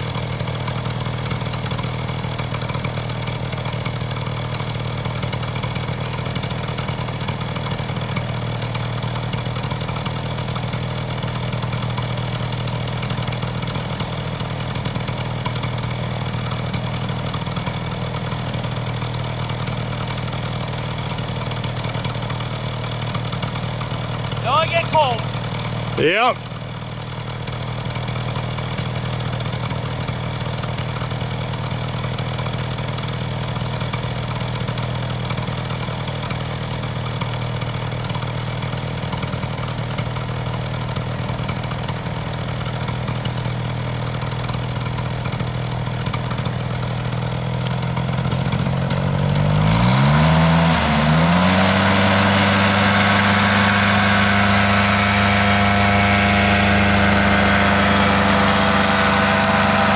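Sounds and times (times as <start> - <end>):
propeller engine running: 0.0 - 31.6, 40.8 - 59.9.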